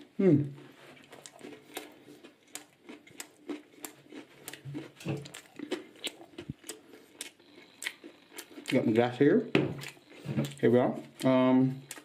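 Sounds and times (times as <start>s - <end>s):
chewing crispy chicken burger: 0.0s - 9.2s, 9.8s - 12.0s.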